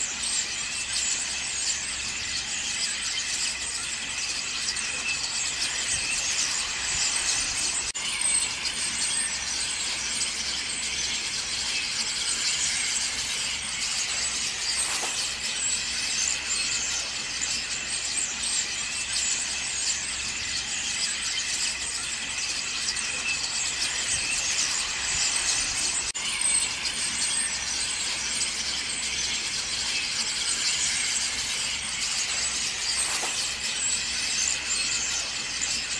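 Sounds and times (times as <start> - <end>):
flock of starlings chattering: 0.0 - 35.9.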